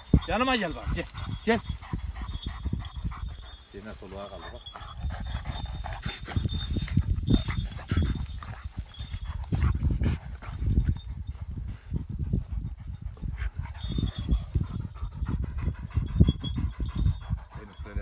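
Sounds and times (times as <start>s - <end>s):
dog panting hard: 0.0s - 18.0s.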